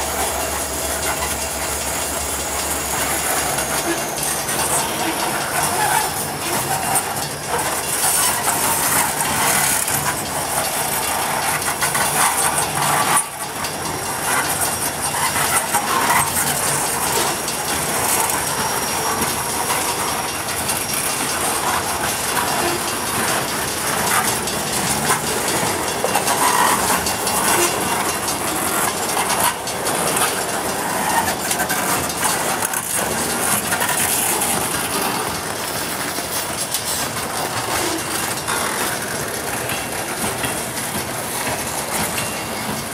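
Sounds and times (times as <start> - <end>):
train wheels clicking over rail joints: 0.0 - 42.9.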